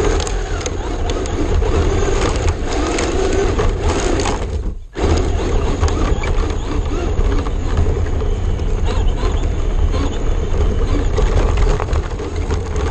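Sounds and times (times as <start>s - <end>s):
grit ticking: 0.0s - 12.9s
rc car rumbling on pavement: 0.0s - 12.9s
wind buffeting microphone: 0.0s - 12.9s.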